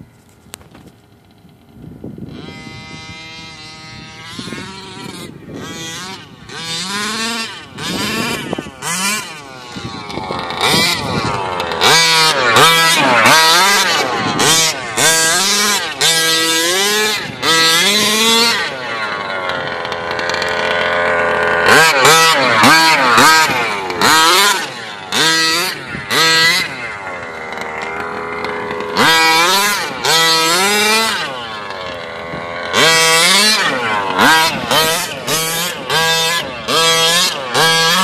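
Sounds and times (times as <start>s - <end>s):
rc truck engine revving: 0.0s - 38.0s.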